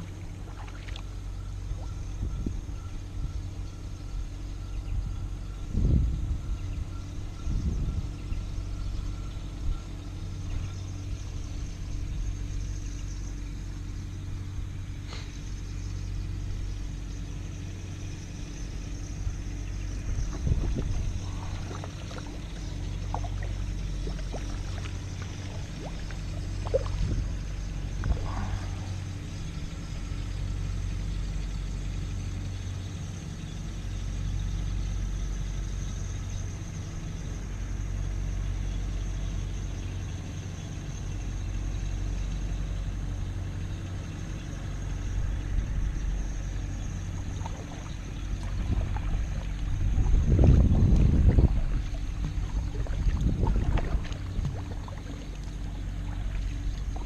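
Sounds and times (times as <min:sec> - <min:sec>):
motor humming: 0:00.0 - 0:34.9, 0:41.1 - 0:57.0.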